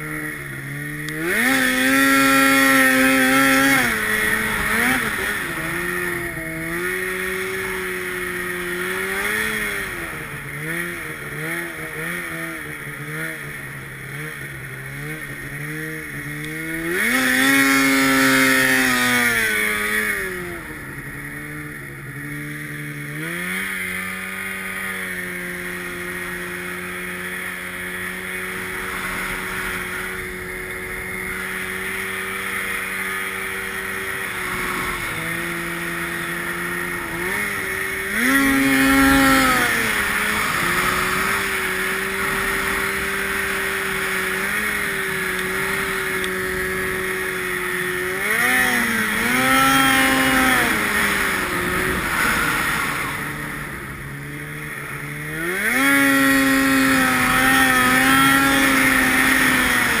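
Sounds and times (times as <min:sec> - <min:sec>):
snowmobile engine revving: 0:00.0 - 1:00.0
wind and track hiss: 0:00.0 - 1:00.0.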